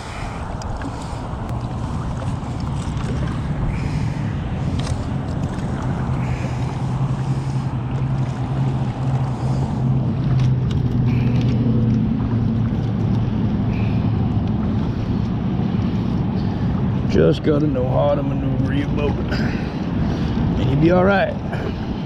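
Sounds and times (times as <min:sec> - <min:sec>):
paddle strokes: 0:00.0 - 0:17.8
steady low hum: 0:00.0 - 0:20.7
moving water: 0:00.0 - 0:22.0.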